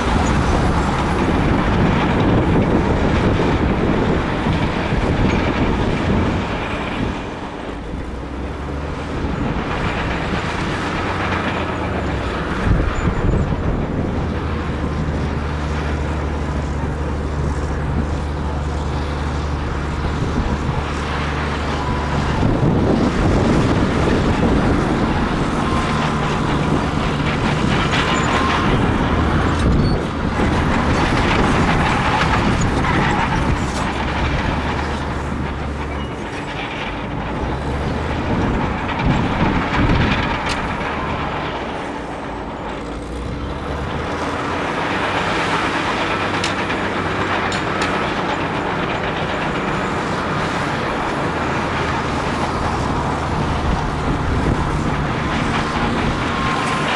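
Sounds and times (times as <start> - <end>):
bulldozer diesel engine: 0.0 - 56.9
clatter of tracks and blade: 9.1 - 56.9.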